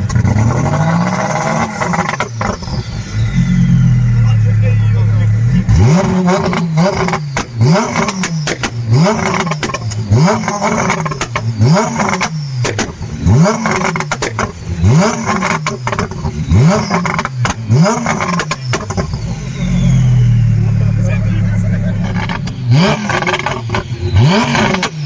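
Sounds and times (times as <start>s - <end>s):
exhaust pops and bangs: 0.0s - 25.0s
sports car engine revving: 0.0s - 25.0s.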